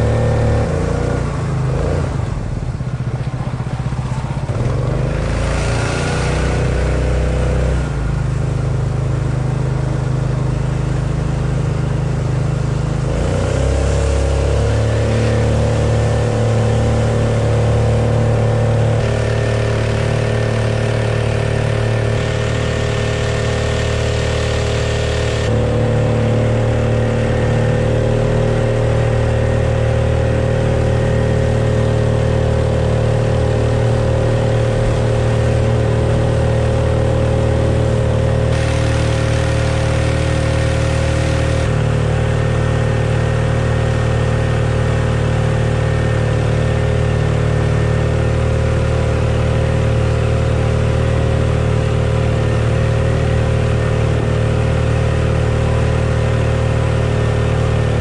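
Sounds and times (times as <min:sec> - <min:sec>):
small boat motor: 0:00.0 - 0:58.0.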